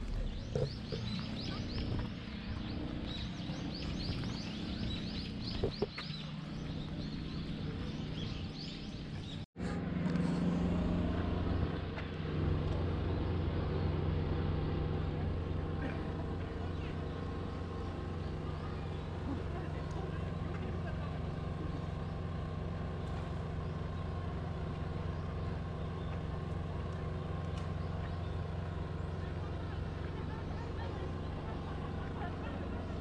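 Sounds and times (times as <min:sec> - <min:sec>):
small birds chirping: 0:00.0 - 0:09.5, 0:11.4 - 0:33.0
low outdoor rumble: 0:00.0 - 0:33.0
vehicle engine humming: 0:00.0 - 0:33.0.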